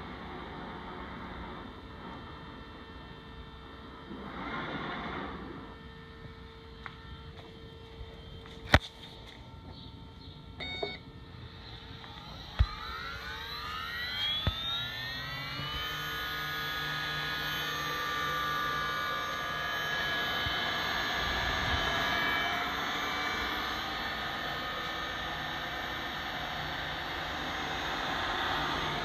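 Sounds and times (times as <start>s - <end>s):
cnc router high whine: 0.0s - 29.0s
machinery hum: 0.0s - 29.0s.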